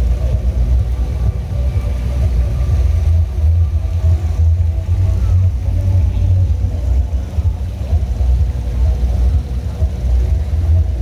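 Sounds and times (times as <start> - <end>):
loud low rumble: 0.0 - 11.0.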